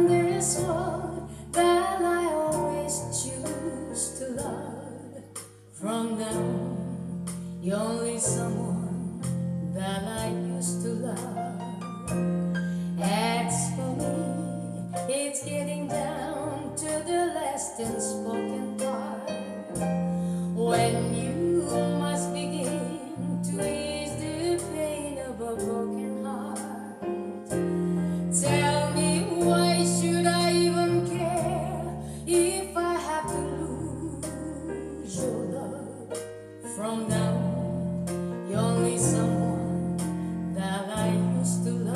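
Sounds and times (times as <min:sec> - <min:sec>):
woman singing: 0:00.0 - 0:11.8, 0:12.9 - 0:27.2, 0:28.2 - 0:41.9
piano: 0:00.0 - 0:41.9
steady bass line: 0:00.0 - 0:41.9.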